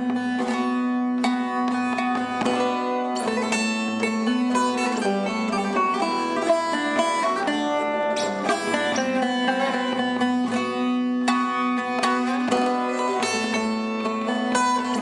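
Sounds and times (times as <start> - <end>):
plucked lute folk melody: 0.0 - 15.0.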